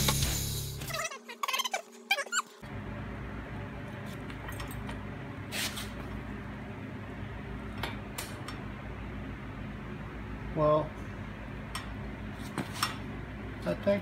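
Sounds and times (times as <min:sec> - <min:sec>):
steady low hum: 0:02.6 - 0:14.0.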